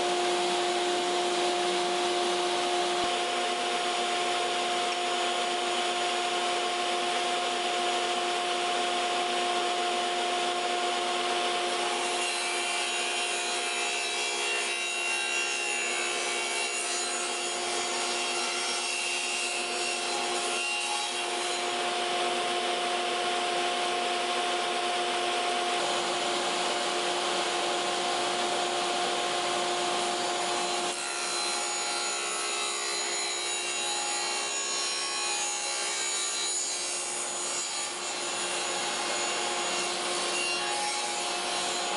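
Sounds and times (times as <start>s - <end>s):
table saw whine: 0.0s - 41.9s.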